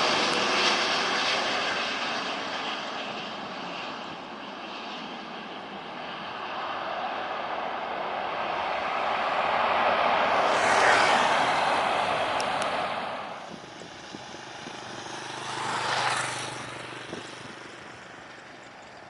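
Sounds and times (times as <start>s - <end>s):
jet airliner taking off: 0.0s - 19.0s.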